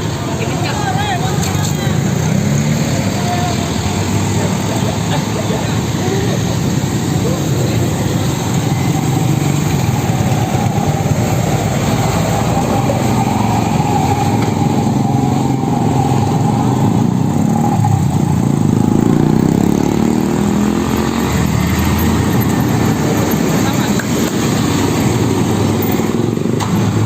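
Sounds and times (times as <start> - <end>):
road traffic engines: 0.0 - 27.0.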